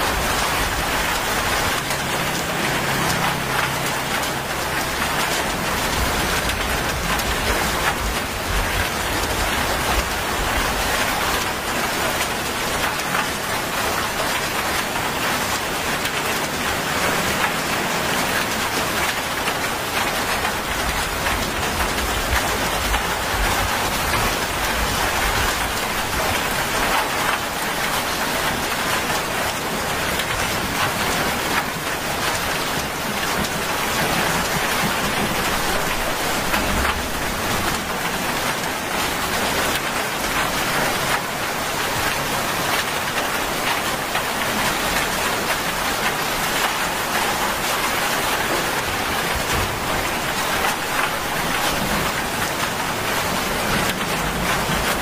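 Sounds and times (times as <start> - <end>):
heavy rain on a paved road: 0.0 - 55.0.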